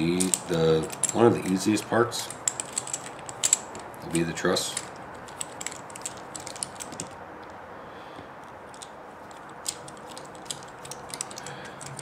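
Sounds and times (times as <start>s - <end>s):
small plastic and metal parts clicking: 0.1s - 7.5s, 8.7s - 12.0s.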